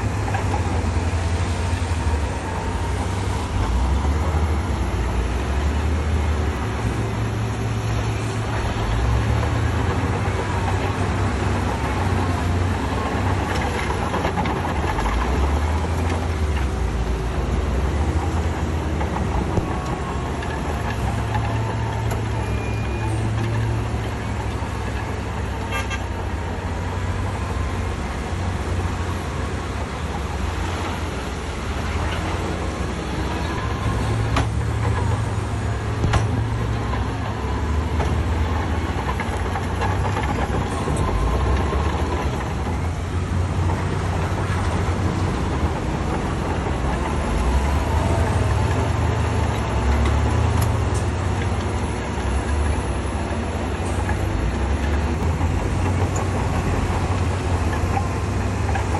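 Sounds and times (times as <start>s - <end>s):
diesel machinery engine drone: 0.0s - 58.9s.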